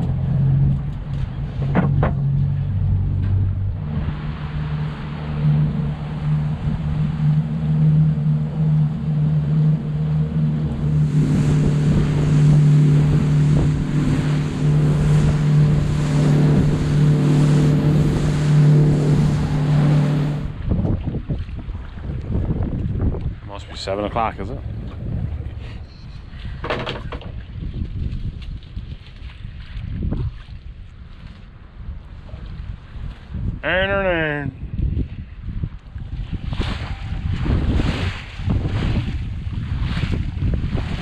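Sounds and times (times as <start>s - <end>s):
boat engine running: 0.0s - 28.0s, 35.7s - 41.0s
water rushing along hull: 0.0s - 41.0s.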